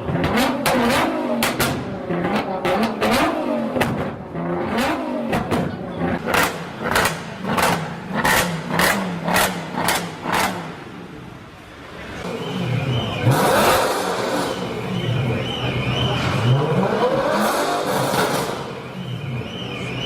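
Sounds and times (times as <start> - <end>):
car engine revving in blips: 0.0 - 11.2, 12.2 - 20.0.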